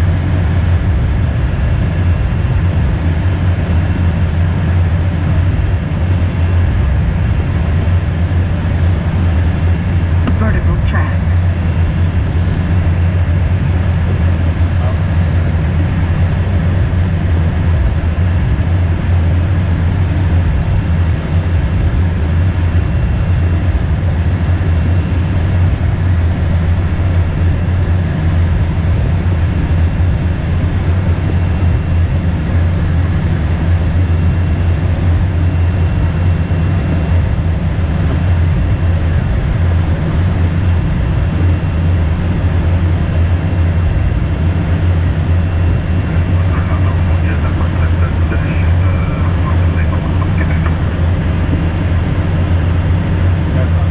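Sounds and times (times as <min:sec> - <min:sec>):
jet engines and airflow drone: 0:00.0 - 0:53.9.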